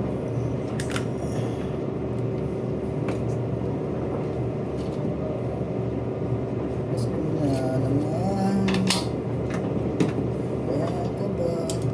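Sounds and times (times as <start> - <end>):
constant hum: 0.0 - 11.9
machine low rumble: 0.0 - 11.9.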